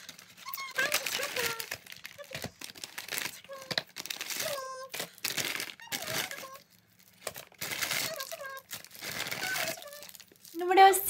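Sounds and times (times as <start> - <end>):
gift bag rustling: 0.0 - 11.0
plastic wrapper crinkling: 0.0 - 11.0.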